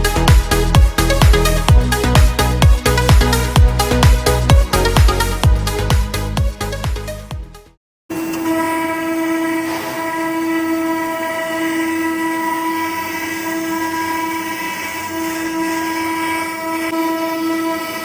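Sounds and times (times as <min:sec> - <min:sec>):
router spindle whine: 0:00.0 - 0:05.9, 0:08.1 - 0:18.0.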